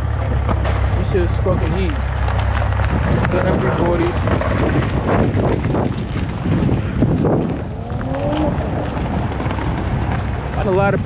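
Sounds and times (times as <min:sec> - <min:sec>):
steady low rumble: 0:00.0 - 0:11.0
wind buffeting microphone: 0:00.0 - 0:11.0.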